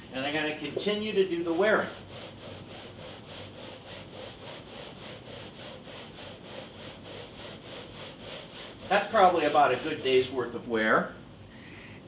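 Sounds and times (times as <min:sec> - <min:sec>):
shoe covers rubbing on carpet: 0:00.6 - 0:10.4.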